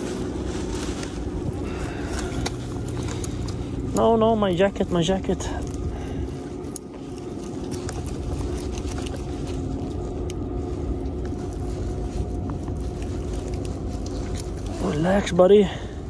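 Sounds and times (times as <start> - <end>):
faint hum: 0.0 - 16.0
low motor drone: 0.0 - 16.0.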